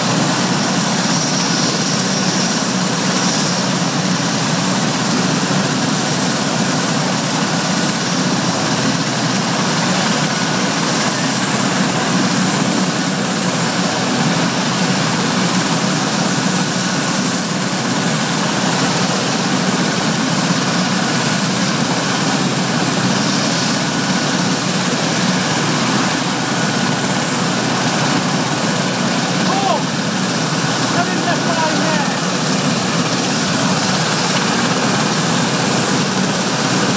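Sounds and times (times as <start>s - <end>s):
helicopter turbine engines running: 0.0s - 36.9s.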